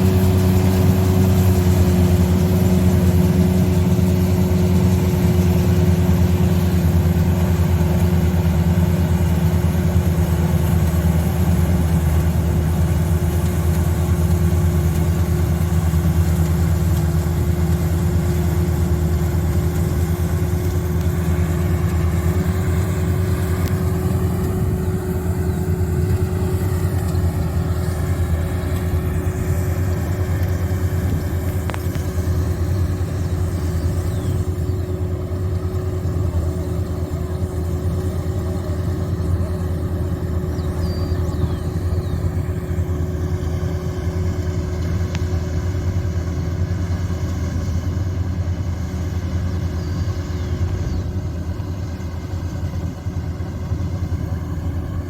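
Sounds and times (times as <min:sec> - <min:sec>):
diesel engine droning under load: 0:00.0 - 0:55.0.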